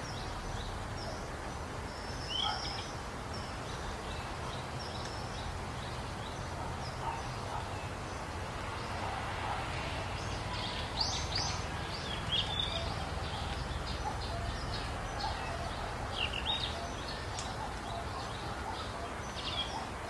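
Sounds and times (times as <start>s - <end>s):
low background noise: 0.0s - 20.0s
small birds chirping: 0.0s - 20.0s.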